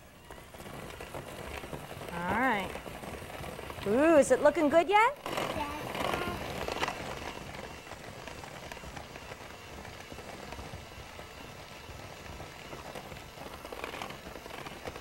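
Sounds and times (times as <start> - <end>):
electric mixer churning dough: 0.0 - 15.0.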